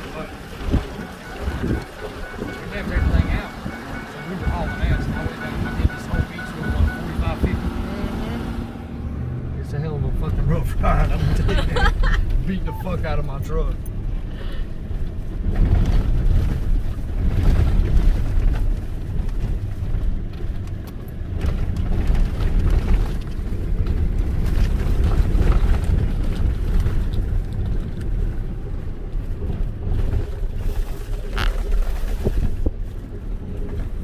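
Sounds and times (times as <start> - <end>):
truck rumbling over sand: 0.0 - 34.0.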